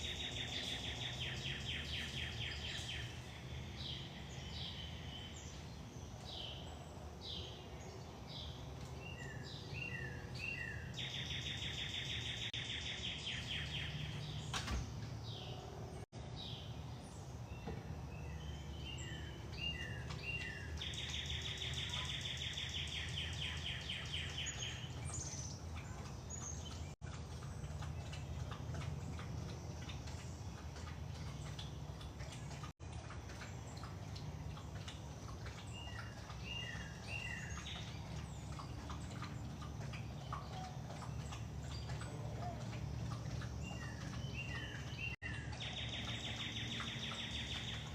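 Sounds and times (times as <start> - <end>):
songbird singing with trill: 0.0 - 15.6, 16.2 - 32.7, 33.3 - 47.9
low outdoor rumble: 0.0 - 47.9.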